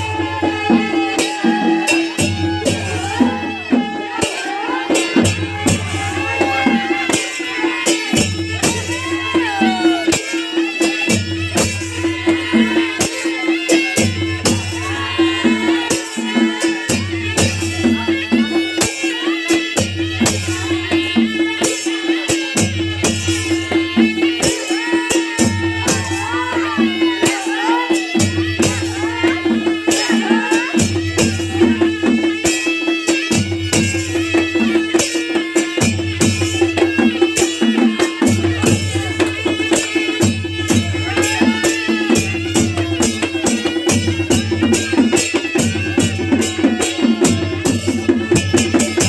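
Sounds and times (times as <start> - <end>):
drum and cymbal strikes: 0.0 - 49.0
reedy shawm melody: 0.0 - 49.0
steady drumming: 0.0 - 49.0.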